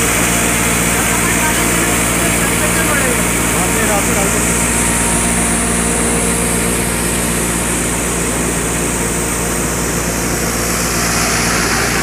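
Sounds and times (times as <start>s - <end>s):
grinding machine motor whir: 0.0s - 12.0s.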